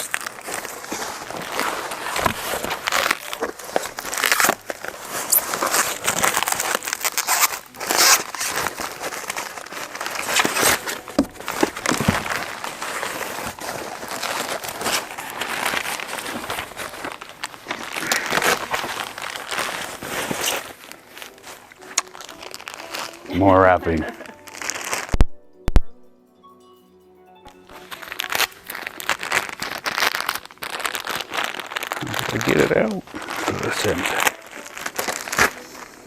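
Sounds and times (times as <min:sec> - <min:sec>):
packing wrapping crinkling: 0:00.0 - 0:26.0, 0:27.5 - 0:36.0.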